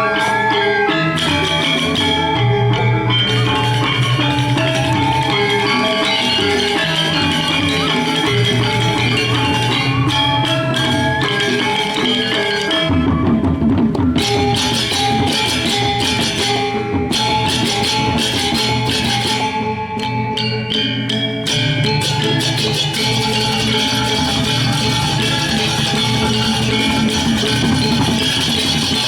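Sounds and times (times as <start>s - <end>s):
bronze metallophones ringing: 0.0s - 29.0s
drums: 0.0s - 29.0s.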